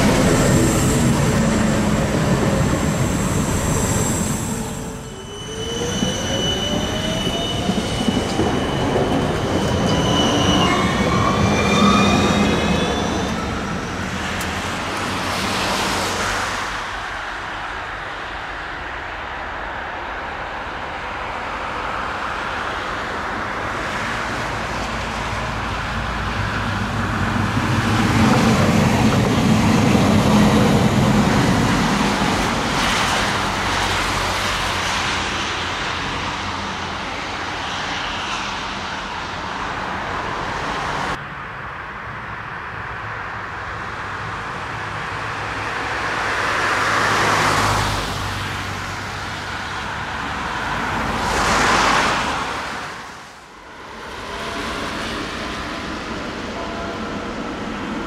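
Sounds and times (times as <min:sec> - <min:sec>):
tram wheels rumbling on rails: 0:00.0 - 0:18.3, 0:20.7 - 0:41.2, 0:44.2 - 0:58.0
road traffic: 0:00.0 - 0:58.0.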